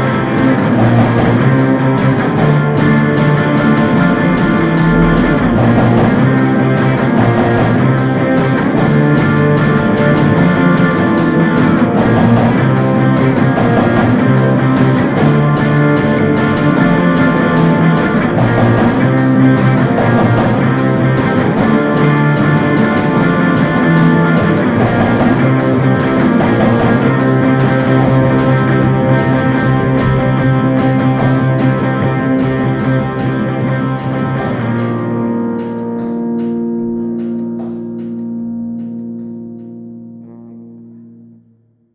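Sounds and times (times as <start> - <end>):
steady drum beat: 0.0 - 39.9
rock guitars: 0.0 - 41.3.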